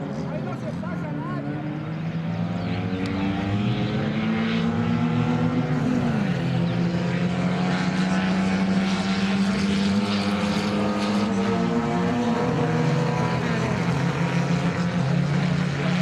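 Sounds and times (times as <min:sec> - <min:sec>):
race car engines at high revs: 0:00.0 - 0:16.0.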